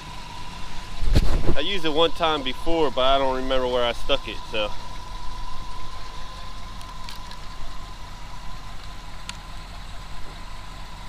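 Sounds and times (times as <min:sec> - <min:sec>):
pickup truck engine idling: 0:00.0 - 0:11.0
thin steady whine: 0:00.0 - 0:11.0.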